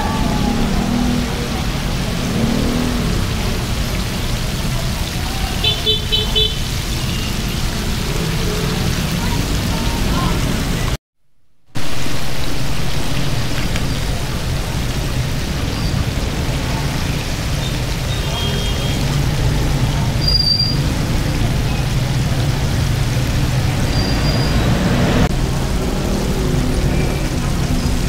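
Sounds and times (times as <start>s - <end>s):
hot oil sizzling: 0.4s - 10.9s, 11.8s - 28.0s.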